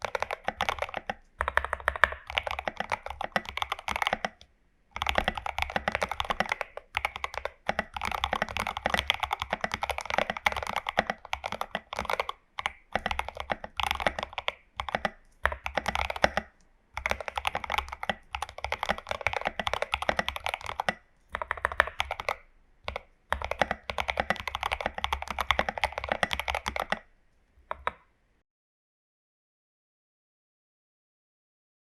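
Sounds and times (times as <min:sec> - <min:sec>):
fast mechanical keyboard typing: 0:00.0 - 0:27.1, 0:27.7 - 0:28.0.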